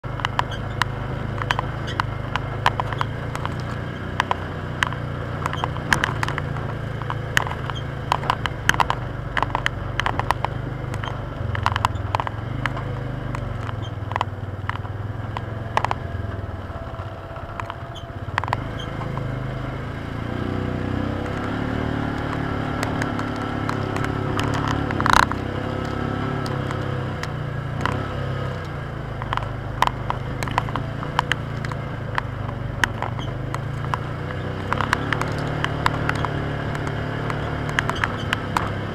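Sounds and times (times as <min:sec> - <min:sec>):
utility vehicle engine running: 0:00.0 - 0:38.9
vehicle rattling over bumps: 0:00.0 - 0:38.9.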